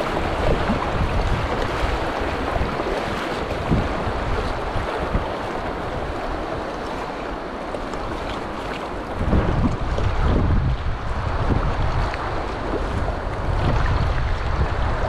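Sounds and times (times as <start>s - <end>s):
river rapid rushing: 0.0s - 15.0s
wind buffeting microphone: 0.0s - 15.0s.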